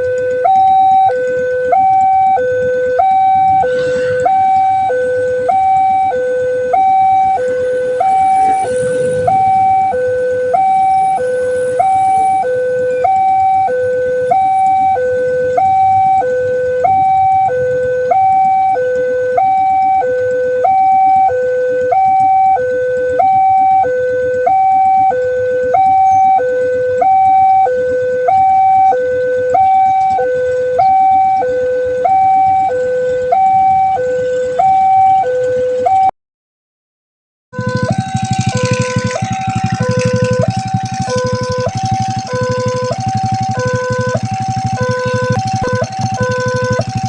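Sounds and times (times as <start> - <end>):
two-tone warning siren: 0.0 - 36.1, 37.5 - 47.0.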